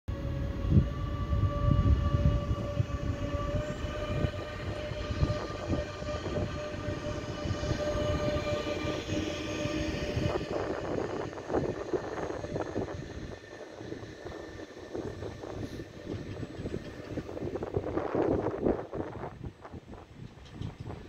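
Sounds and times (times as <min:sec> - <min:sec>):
steady locomotive whine: 0:00.1 - 0:21.0
train wheels rumbling: 0:00.1 - 0:21.0
train knocks and clatter: 0:02.8 - 0:21.0.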